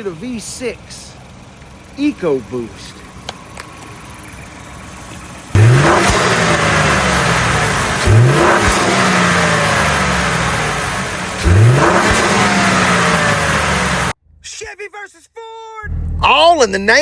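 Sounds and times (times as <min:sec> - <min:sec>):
car engine revving: 0:01.2 - 0:14.4, 0:15.9 - 0:16.5.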